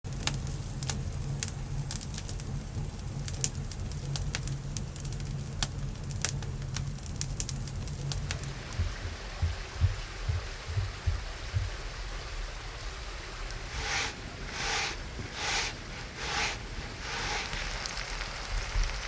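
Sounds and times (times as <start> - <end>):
wood fire crackling and popping: 0.1 - 10.9, 13.5 - 19.0
steady low hum: 0.4 - 18.7.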